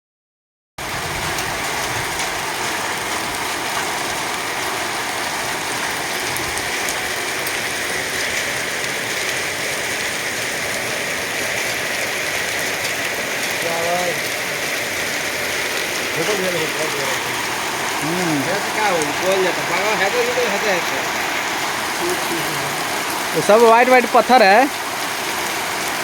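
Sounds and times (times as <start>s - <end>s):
hailstones ticking: 0.8s - 26.0s
heavy rain downpour: 0.8s - 26.0s.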